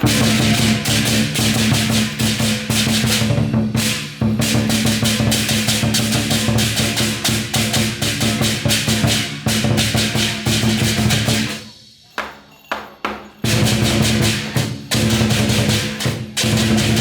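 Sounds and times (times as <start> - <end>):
large drum beating fast: 0.0 - 11.5, 13.4 - 17.0
crashing cymbals: 0.0 - 12.6, 13.4 - 17.0.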